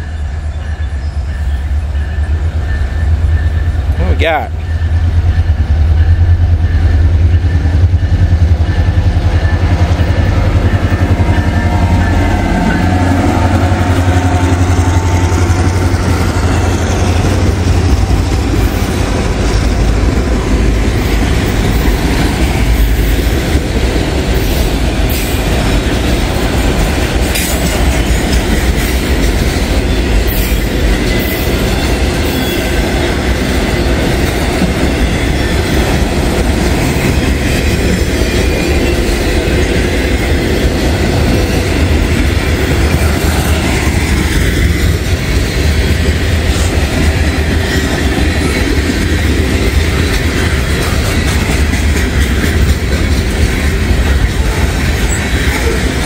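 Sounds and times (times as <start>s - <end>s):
locomotive engine hum: 0.0s - 56.0s
train wheels clickety-clack: 0.7s - 56.0s.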